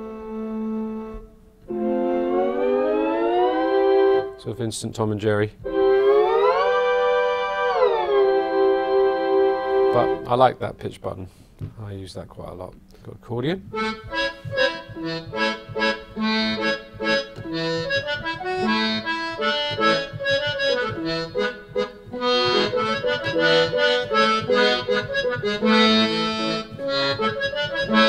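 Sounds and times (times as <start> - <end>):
keyboard accordion tune: 0.0 - 4.5, 5.6 - 10.5, 13.7 - 28.0.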